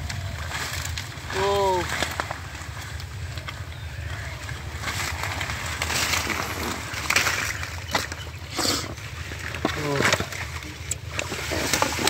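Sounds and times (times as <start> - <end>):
leaves rustling: 0.0 - 12.0
mud and water stirred: 0.0 - 12.0
steady low hum: 0.0 - 12.0.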